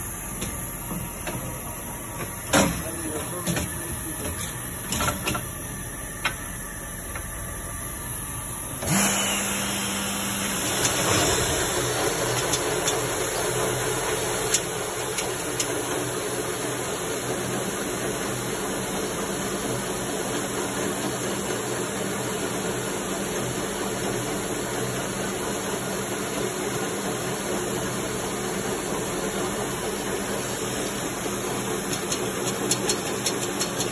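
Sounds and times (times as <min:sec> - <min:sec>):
folding machine running: 0:00.0 - 0:33.9.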